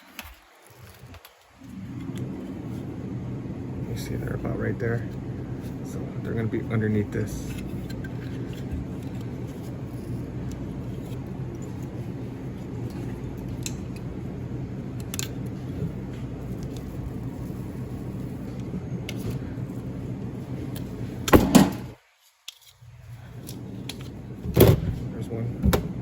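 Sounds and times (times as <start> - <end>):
low machine hum: 0.0 - 22.0, 22.8 - 26.0.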